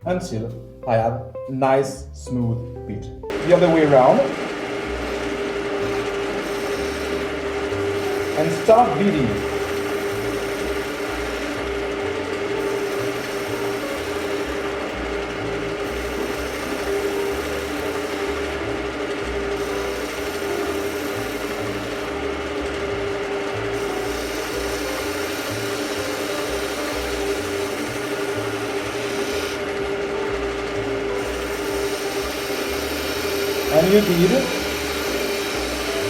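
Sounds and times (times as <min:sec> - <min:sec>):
chisel cutting wood: 0:03.3 - 0:36.0
lathe motor hum: 0:03.3 - 0:36.0.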